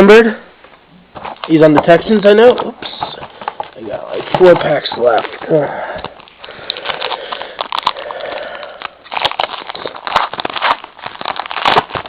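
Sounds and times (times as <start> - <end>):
foil wrapper crinkling: 1.4 - 12.0.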